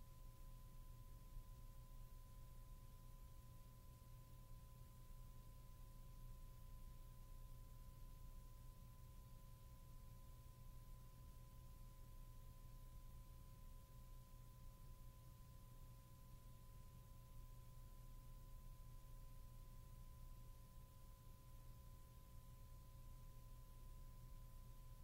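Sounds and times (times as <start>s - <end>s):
faint low hum and hiss: 0.0s - 25.0s.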